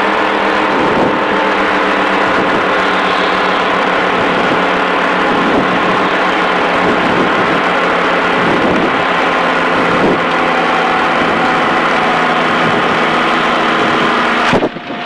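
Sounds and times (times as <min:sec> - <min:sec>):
light aircraft engine and propeller: 0:00.0 - 0:15.0.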